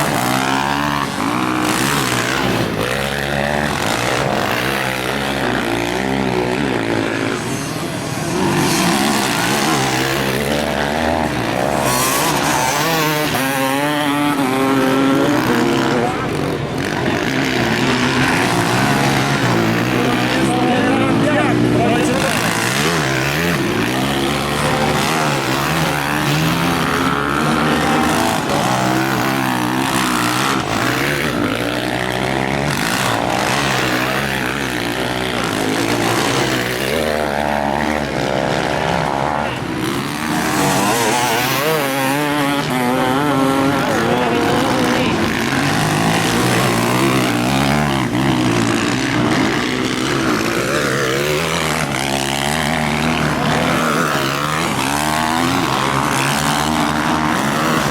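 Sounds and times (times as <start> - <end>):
motocross bikes revving: 0.0 - 57.9.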